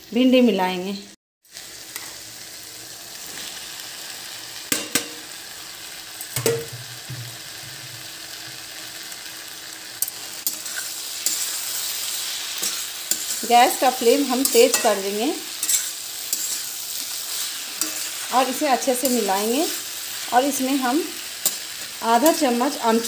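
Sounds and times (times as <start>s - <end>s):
masala sizzling in a pan: 0.0s - 23.0s.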